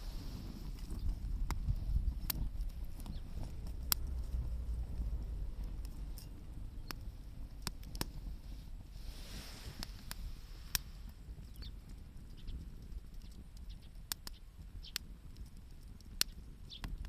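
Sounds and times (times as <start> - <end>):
steady low rumble: 0.0 - 14.9
campfire crackling: 0.0 - 17.0.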